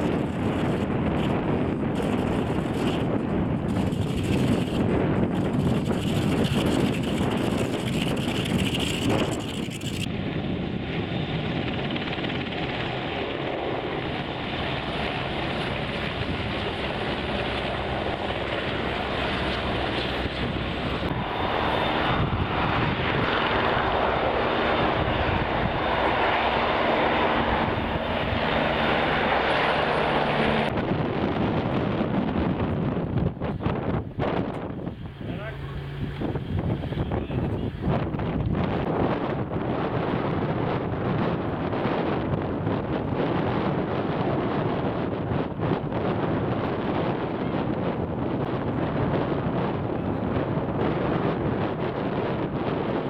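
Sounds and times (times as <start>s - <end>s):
aircraft engine drone: 0.0s - 53.0s.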